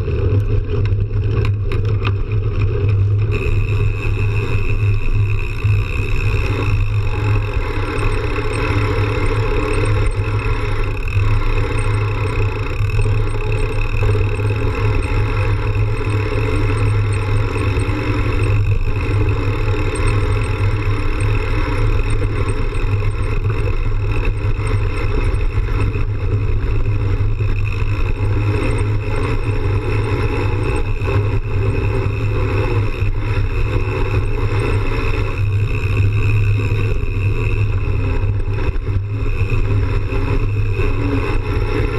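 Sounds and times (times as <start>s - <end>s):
bike tyres rolling on dirt: 0.0s - 41.9s.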